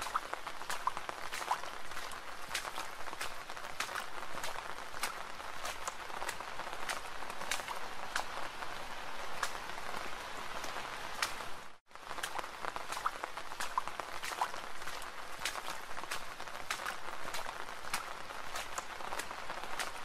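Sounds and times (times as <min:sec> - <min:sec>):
raindrop hits: 0:00.0 - 0:20.0
steady rain hiss: 0:00.0 - 0:20.0.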